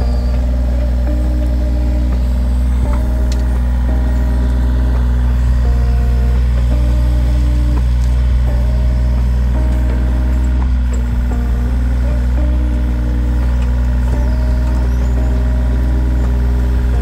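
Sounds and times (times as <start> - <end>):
diesel engine running: 0.0 - 17.0
hydraulic whine: 0.0 - 17.0.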